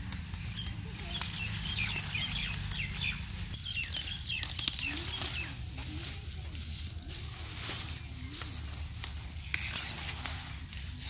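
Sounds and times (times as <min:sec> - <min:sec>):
leaves rustling: 0:00.0 - 0:11.0
small birds chirping: 0:00.0 - 0:11.0.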